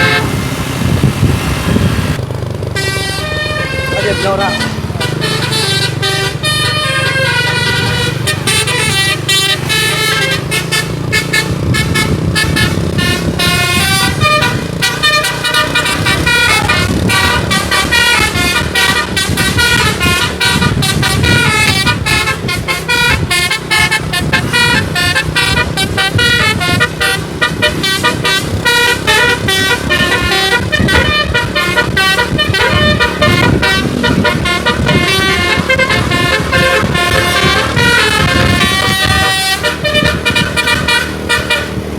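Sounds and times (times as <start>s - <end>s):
bus musical air horn tune: 0.0s - 0.8s, 1.7s - 41.9s
bus engine running: 0.0s - 41.9s.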